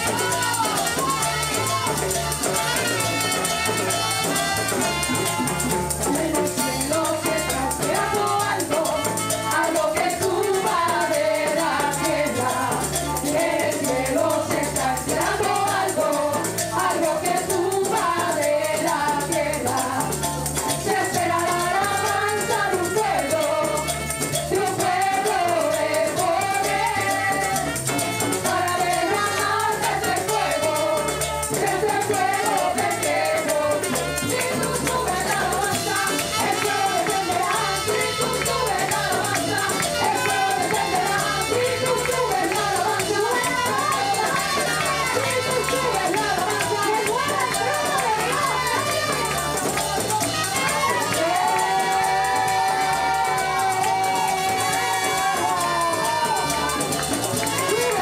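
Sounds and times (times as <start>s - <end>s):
band with timbales guitar trumpet: 0.0s - 58.0s
women singing together: 0.0s - 58.0s.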